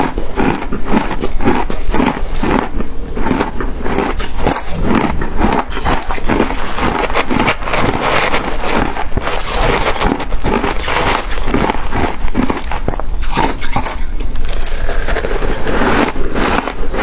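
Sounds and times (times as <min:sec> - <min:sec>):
person crunching ice: 0:00.0 - 0:17.0.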